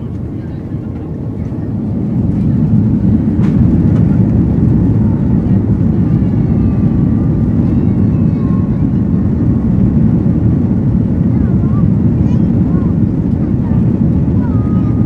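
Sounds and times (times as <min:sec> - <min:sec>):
deep engine rumble: 0:00.0 - 0:15.0.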